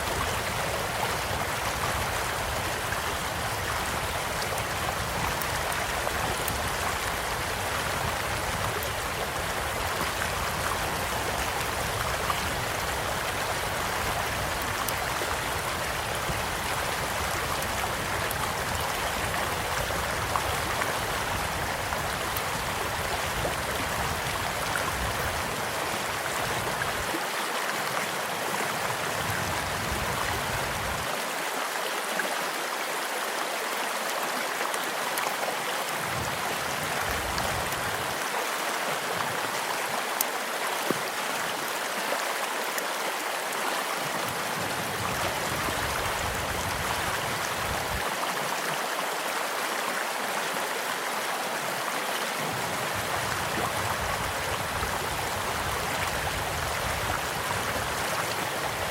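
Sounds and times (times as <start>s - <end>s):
small stream flowing: 0.0s - 58.9s.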